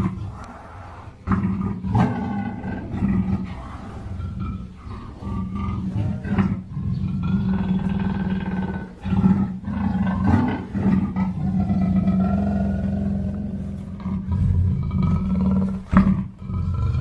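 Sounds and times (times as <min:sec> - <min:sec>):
panther growling: 0:00.0 - 0:17.0.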